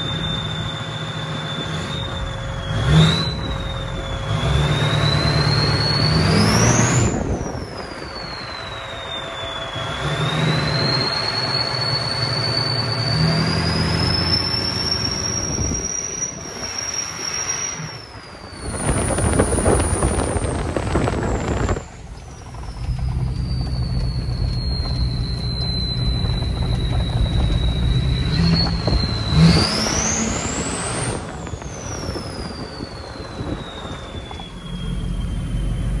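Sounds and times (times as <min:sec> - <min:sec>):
diesel truck engine: 0:00.0 - 0:36.0
turbo whistling: 0:00.0 - 0:36.0.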